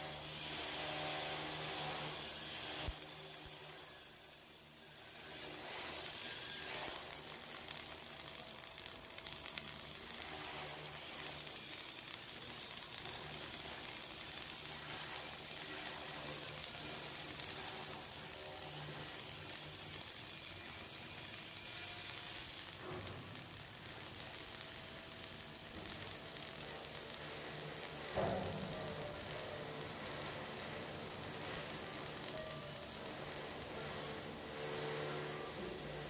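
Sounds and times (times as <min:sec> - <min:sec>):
welding arc hissing: 0:00.0 - 0:36.0.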